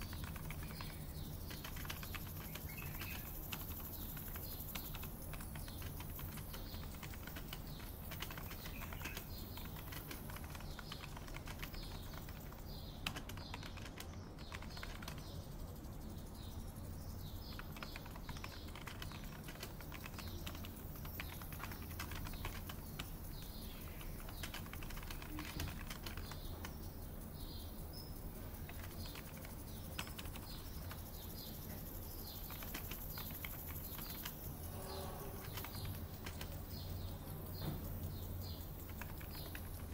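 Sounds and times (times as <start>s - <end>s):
birds chirping: 0.0s - 39.9s
keyboard typing: 0.0s - 39.9s.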